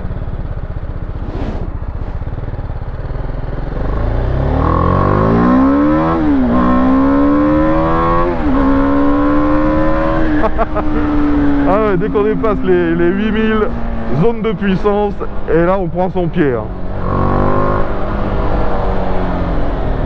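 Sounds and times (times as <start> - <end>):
motorcycle engine accelerating: 0.0 - 15.6, 16.3 - 20.0.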